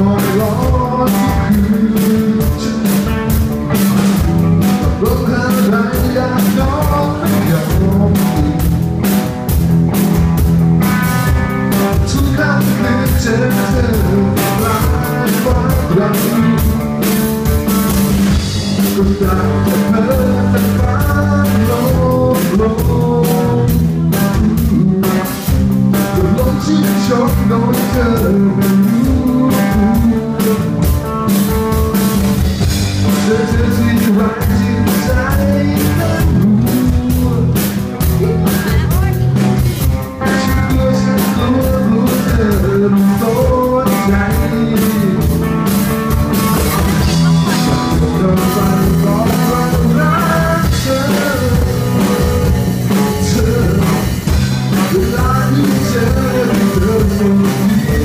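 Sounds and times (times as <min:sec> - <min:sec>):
person singing: 0:00.0 - 0:03.5, 0:04.6 - 0:08.8, 0:11.6 - 0:17.3, 0:18.3 - 0:32.0, 0:33.0 - 0:58.0
bass guitar: 0:00.0 - 0:58.0
drum kit: 0:00.0 - 0:58.0
electric guitars: 0:00.0 - 0:58.0.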